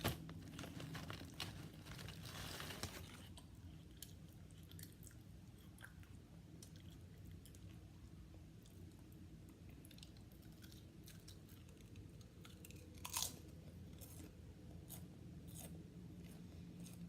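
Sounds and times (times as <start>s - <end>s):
potato chips being chewed: 0.0s - 8.0s, 8.6s - 17.0s
low steady hum: 0.0s - 17.0s.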